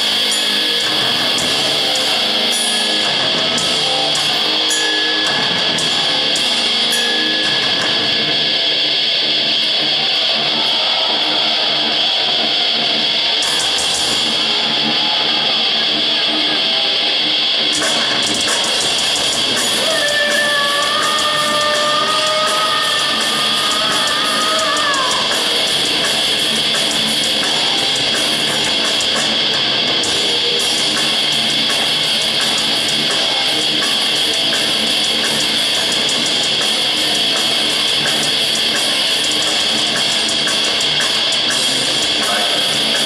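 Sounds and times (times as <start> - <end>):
distorted electric guitars: 0.0 - 43.0
drums: 0.0 - 43.0.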